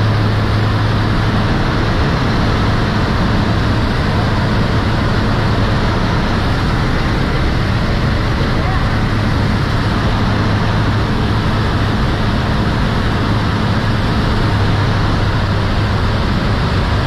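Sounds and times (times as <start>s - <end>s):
airflow rushing through cabin: 0.0s - 17.0s
low hum: 0.0s - 17.0s
plane engine droning: 0.0s - 17.0s.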